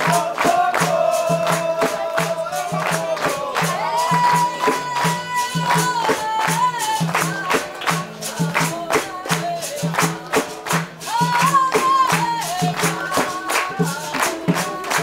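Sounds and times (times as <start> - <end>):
berimbaus and percussion: 0.0 - 15.0
handclaps: 0.0 - 15.0.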